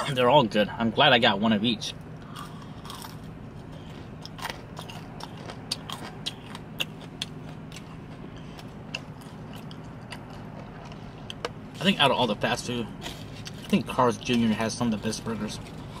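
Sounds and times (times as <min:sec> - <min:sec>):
steady low hum: 0:00.0 - 0:16.0
chewing crisp fried food: 0:02.2 - 0:16.0.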